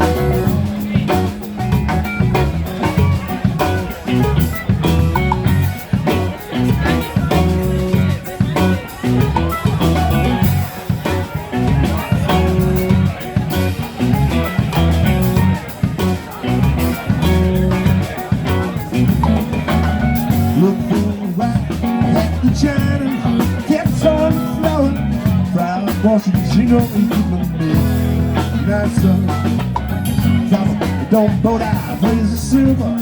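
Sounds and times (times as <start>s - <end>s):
live band playing: 0.0s - 33.0s
pitch-bending guitar or vocal line: 0.0s - 33.0s.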